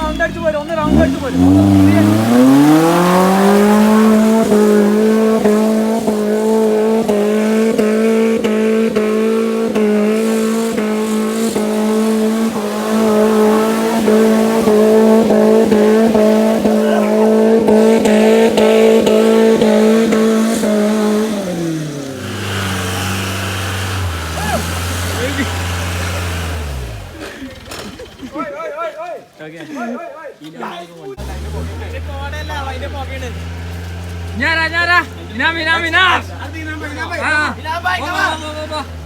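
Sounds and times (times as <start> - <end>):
engine revving high: 0.0 - 28.4, 31.2 - 39.0.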